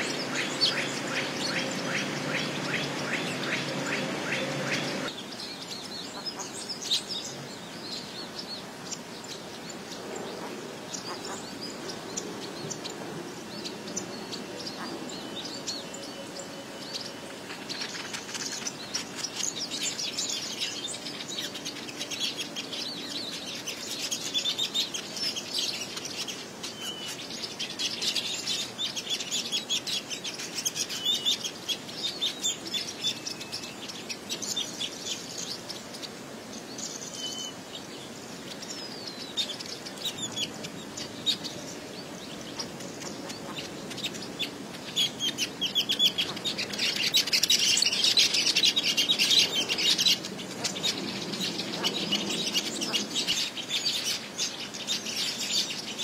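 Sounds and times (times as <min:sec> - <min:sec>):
birds chattering: 0:00.0 - 0:56.0.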